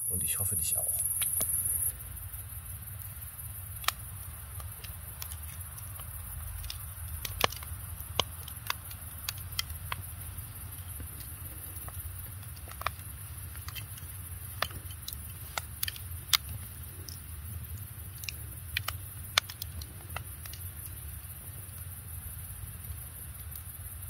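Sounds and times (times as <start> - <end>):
wood fire crackling: 0.2 - 24.0.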